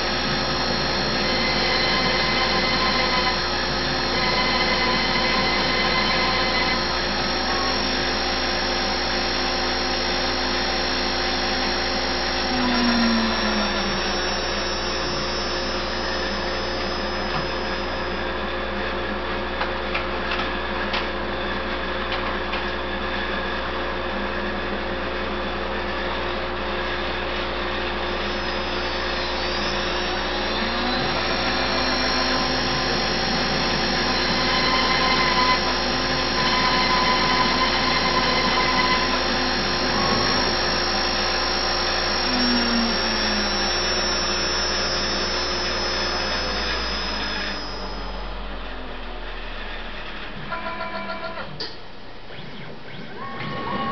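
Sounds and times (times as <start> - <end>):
stepper motors whining: 0.0 - 18.8, 27.5 - 53.9
router spindle whine and hum: 0.0 - 53.9.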